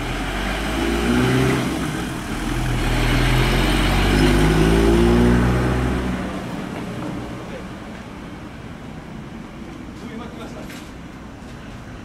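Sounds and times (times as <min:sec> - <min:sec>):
bus diesel engine accelerating: 0:00.0 - 0:09.9.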